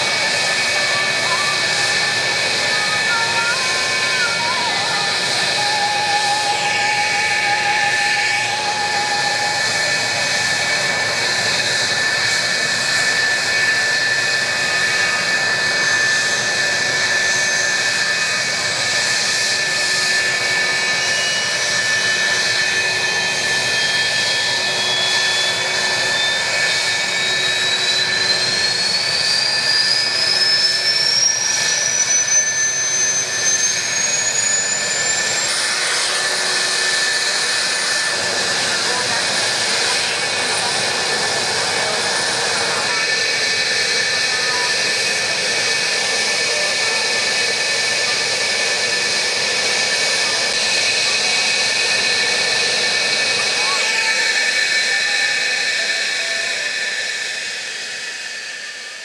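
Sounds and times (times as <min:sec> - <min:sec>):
engine spooling up: 0:00.0 - 0:59.0
jet engines whining: 0:00.0 - 0:59.0.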